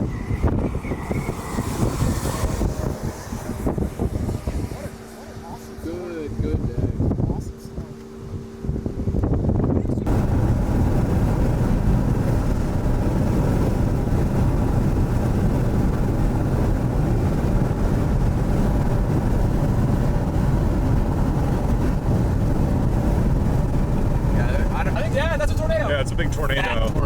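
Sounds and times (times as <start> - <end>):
road and wind noise inside car: 0.0 - 27.0.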